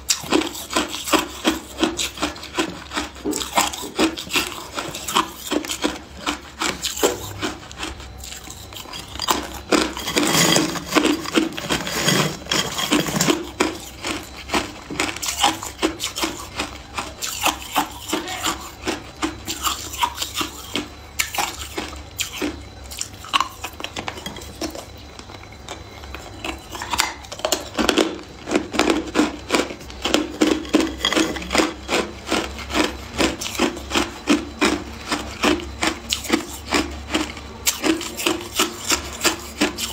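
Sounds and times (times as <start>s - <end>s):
ice crunched between teeth: 0.1s - 39.9s.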